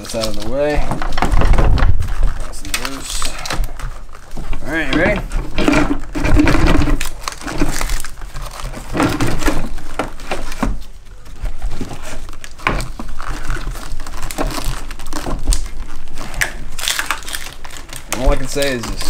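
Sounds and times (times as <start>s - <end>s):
rustling scraping and knocking: 0.0s - 19.0s.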